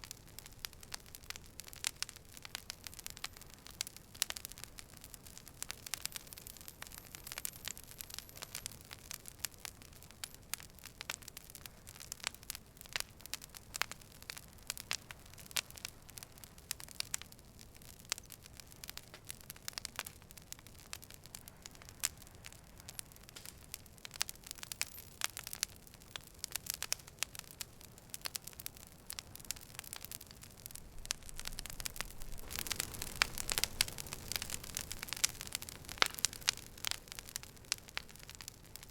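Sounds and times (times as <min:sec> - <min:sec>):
campfire crackling and popping: 0:00.0 - 0:38.9
soft steady hiss: 0:00.0 - 0:38.9.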